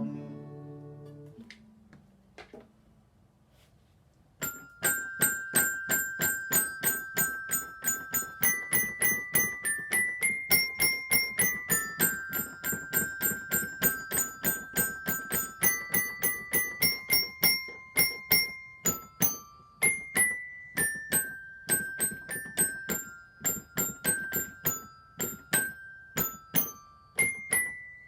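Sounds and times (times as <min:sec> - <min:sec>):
keyboard xylophone tune: 0:04.4 - 0:28.0.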